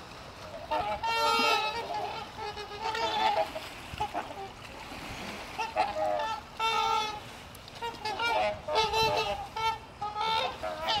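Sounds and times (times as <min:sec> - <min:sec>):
swans calling: 0:00.2 - 0:11.0.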